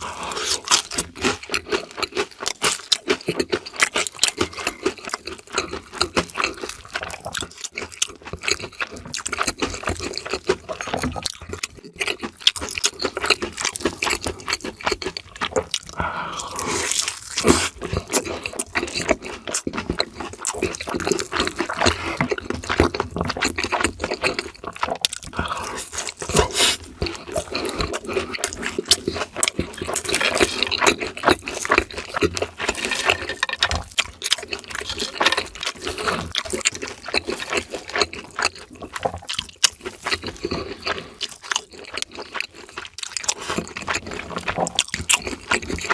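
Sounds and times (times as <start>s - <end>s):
crunching and chewing: 0.0s - 45.9s
mouth clicks and smacks: 0.3s - 45.9s.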